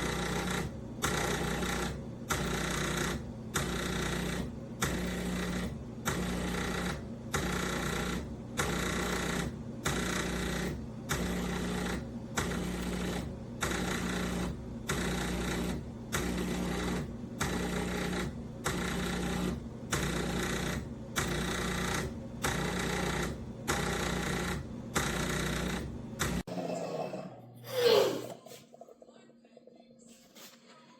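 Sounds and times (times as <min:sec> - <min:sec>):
espresso machine pulsing: 0:00.0 - 0:26.6.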